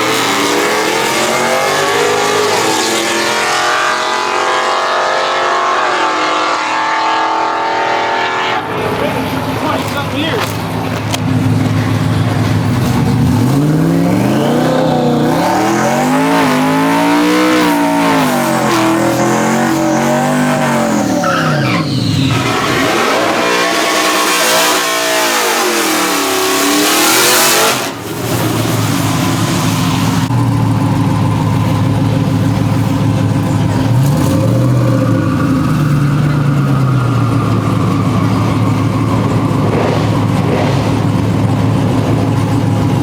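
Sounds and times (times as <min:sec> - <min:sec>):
tire squeal: 0:00.0 - 0:11.1, 0:11.7 - 0:43.0
truck engine revving: 0:00.0 - 0:43.0.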